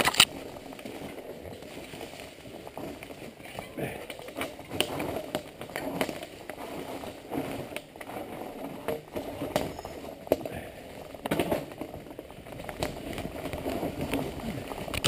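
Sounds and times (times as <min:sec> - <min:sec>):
bike knocking and rattling: 0:00.0 - 0:15.0
bike tyres rolling over leaves: 0:00.0 - 0:15.0.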